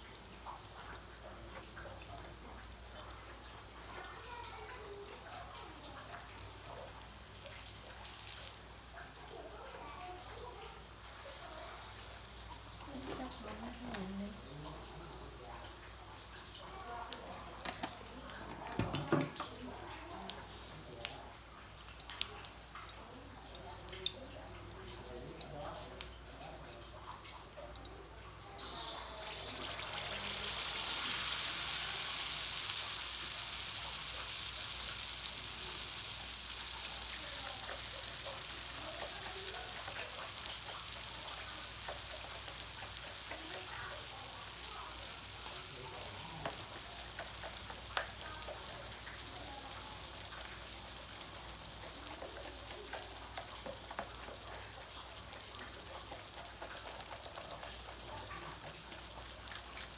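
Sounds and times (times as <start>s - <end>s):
batter sizzling in hot oil: 0.0s - 59.9s.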